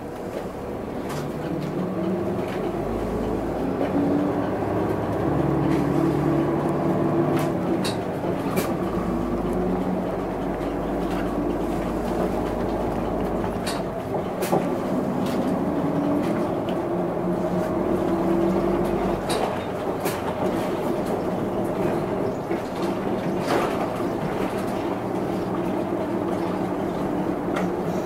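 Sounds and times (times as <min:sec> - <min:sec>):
bus diesel engine: 0:00.0 - 0:28.0
road noise: 0:00.0 - 0:28.0.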